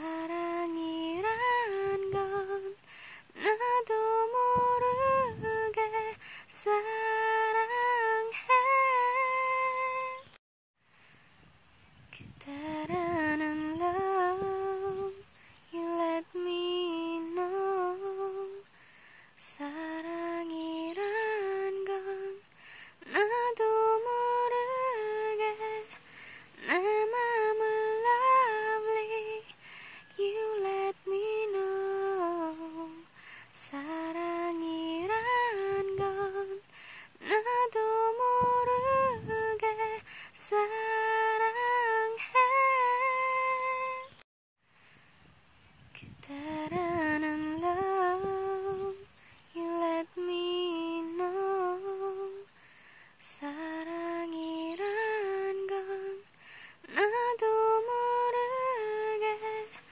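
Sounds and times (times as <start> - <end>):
woman humming a slow melody: 0.0 - 10.4, 12.0 - 18.7, 19.4 - 44.2, 45.9 - 52.5, 53.2 - 59.9.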